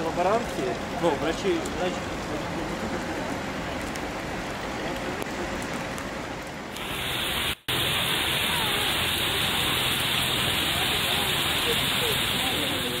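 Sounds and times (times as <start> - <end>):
heavy rain pouring: 0.0 - 13.0
steady outdoor hiss: 0.0 - 13.0.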